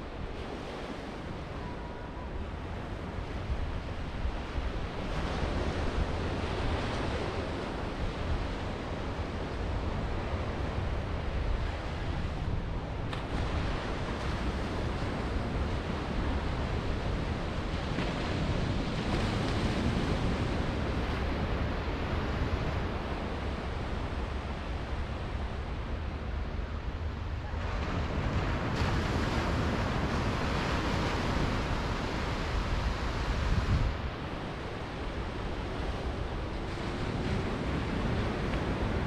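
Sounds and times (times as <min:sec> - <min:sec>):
wind rumble on microphone: 0:00.0 - 0:39.0
small waves washing on sand: 0:02.4 - 0:25.8, 0:27.5 - 0:39.0.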